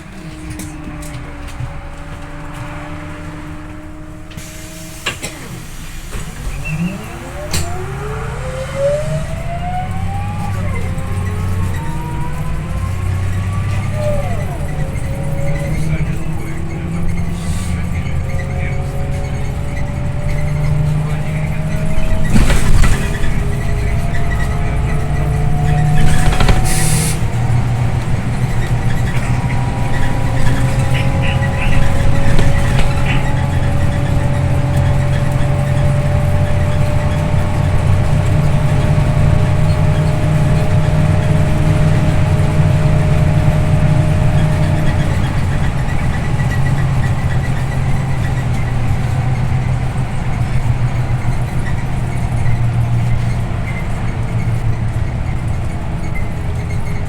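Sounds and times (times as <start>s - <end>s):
bus diesel engine drone: 0.0s - 57.0s
road noise: 0.0s - 57.0s.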